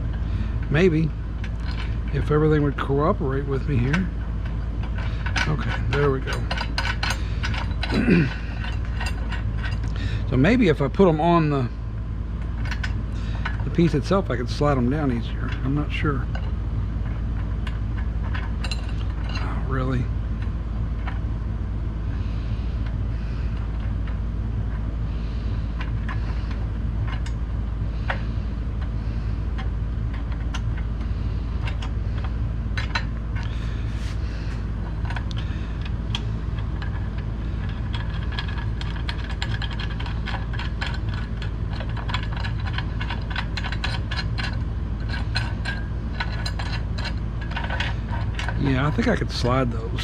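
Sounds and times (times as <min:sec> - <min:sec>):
metal bolts clicking and rattling: 0:00.0 - 0:11.7, 0:12.4 - 0:21.3, 0:22.8 - 0:50.0
steady low hum: 0:00.0 - 0:50.0.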